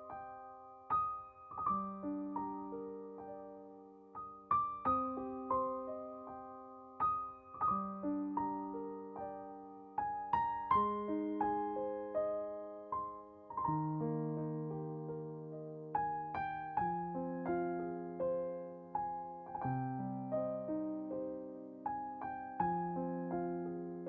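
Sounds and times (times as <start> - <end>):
soft piano arpeggiated chords: 0.0 - 24.0.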